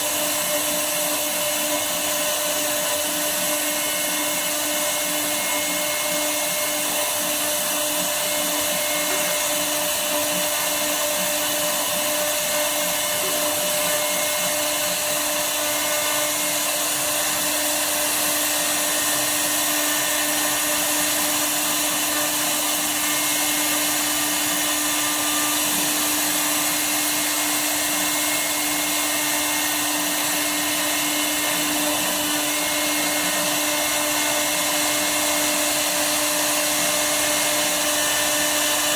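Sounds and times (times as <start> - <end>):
router spindle whine cutting wood: 0.0 - 38.9.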